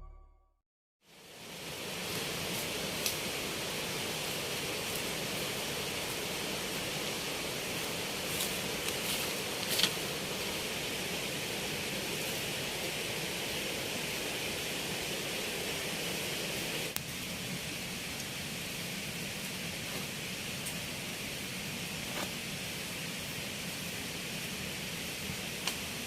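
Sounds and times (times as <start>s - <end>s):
outdoor noise haze: 1.0s - 26.0s.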